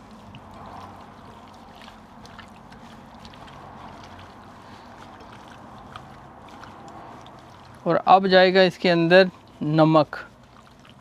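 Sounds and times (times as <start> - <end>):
wet squelching of mixing meat: 0.0 - 11.0.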